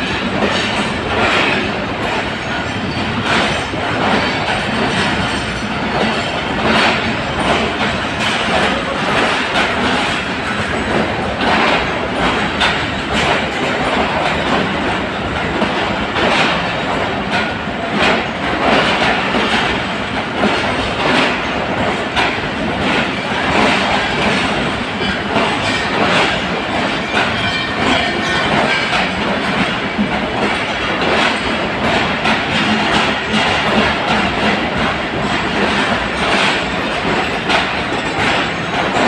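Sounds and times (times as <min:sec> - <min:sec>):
train rumble: 0:00.0 - 0:39.0
train wheels clacking over rail joints: 0:00.0 - 0:39.0.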